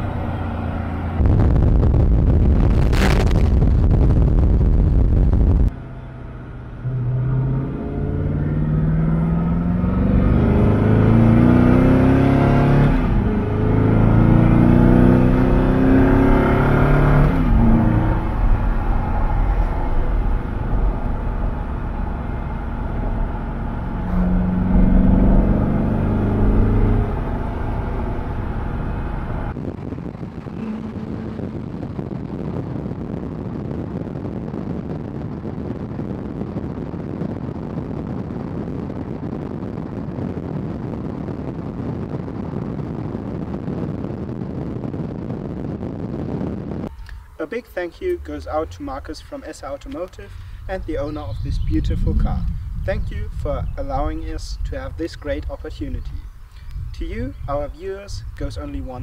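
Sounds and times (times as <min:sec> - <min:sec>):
car engine at full throttle: 0:00.0 - 0:47.4
wind and road noise: 0:00.0 - 0:59.0.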